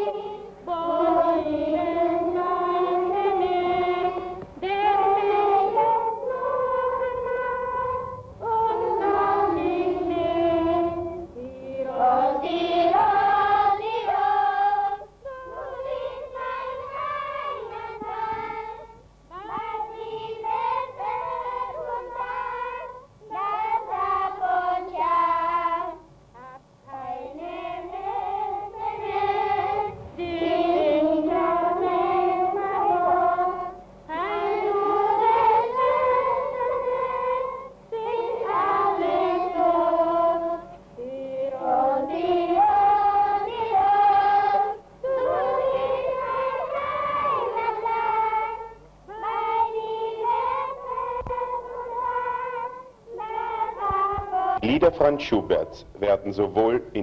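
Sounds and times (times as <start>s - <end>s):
girls choir singing: 0.0s - 55.6s.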